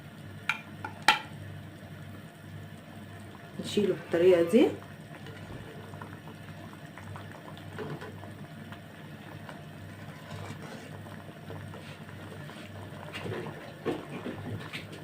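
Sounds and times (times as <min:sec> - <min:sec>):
syrup bubbling in pot: 0:00.1 - 0:15.0.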